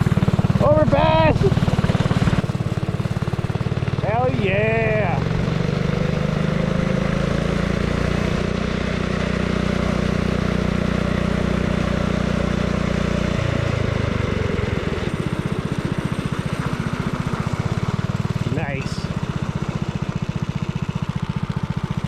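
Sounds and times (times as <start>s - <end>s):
small engine revving and idling: 0.0s - 22.0s.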